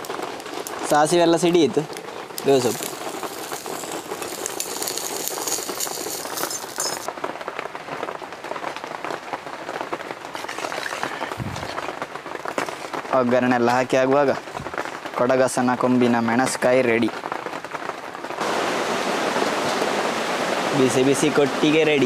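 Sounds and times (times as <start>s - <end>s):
leaves sizzling in hot oil: 0.0s - 7.1s, 9.7s - 16.8s, 18.4s - 22.0s.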